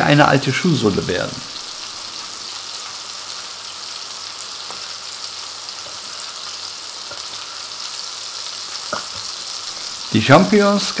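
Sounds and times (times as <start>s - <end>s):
bacon sizzling in a pan: 0.0s - 11.0s.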